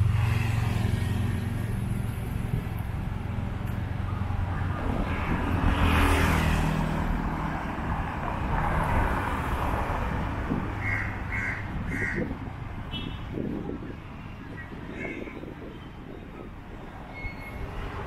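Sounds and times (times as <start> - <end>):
vehicles passing on street: 0.0 - 18.0.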